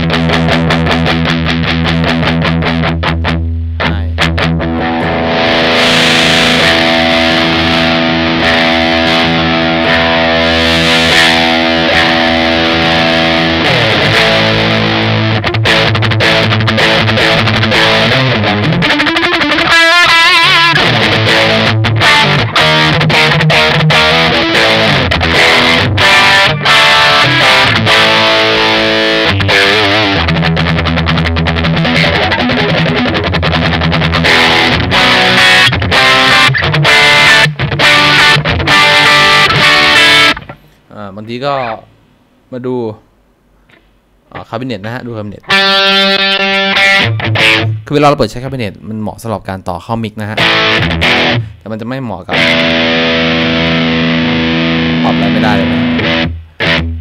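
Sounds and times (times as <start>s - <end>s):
distorted electric guitar: 0.0s - 42.2s, 43.6s - 48.6s, 50.2s - 57.0s.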